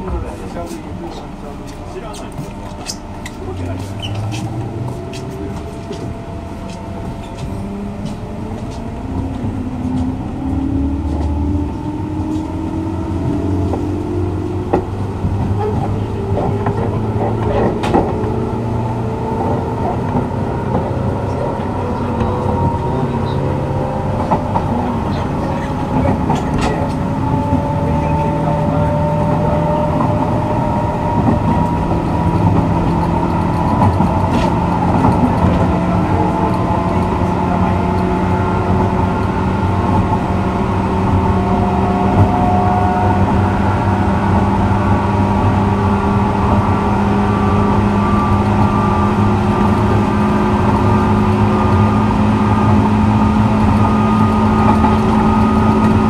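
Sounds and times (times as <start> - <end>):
low train rumble: 0.0 - 56.0.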